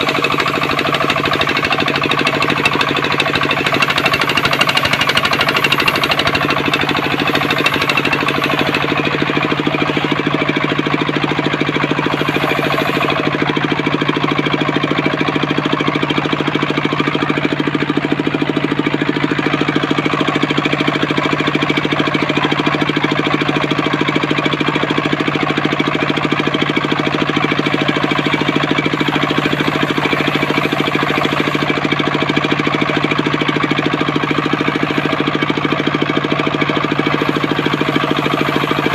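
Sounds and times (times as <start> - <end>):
sawmill machine hum: 0.0 - 38.9.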